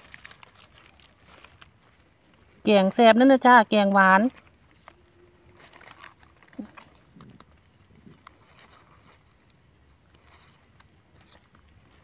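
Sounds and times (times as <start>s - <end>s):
rustling of dry leaf litter: 0.0s - 2.7s, 4.0s - 12.0s
high-pitched insect drone: 0.0s - 12.0s.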